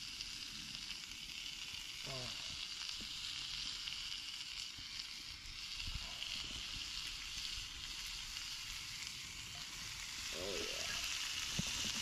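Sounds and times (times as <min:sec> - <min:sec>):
food sizzling in a hot pan: 0:00.0 - 0:12.0.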